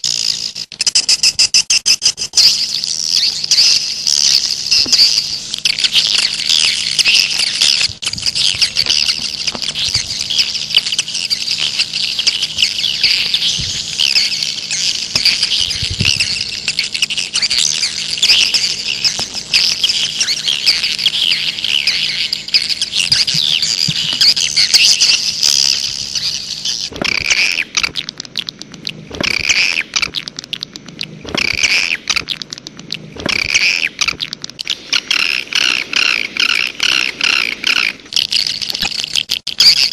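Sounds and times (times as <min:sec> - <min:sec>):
swiftlet twittering chirps: 0:00.0 - 0:39.9.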